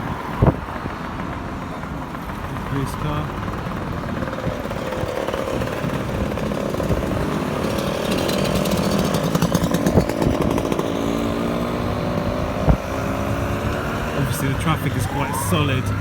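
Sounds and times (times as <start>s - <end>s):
wind rumble on microphone: 0.0s - 2.5s, 3.8s - 14.2s
vehicle engine buzzing: 0.0s - 16.0s.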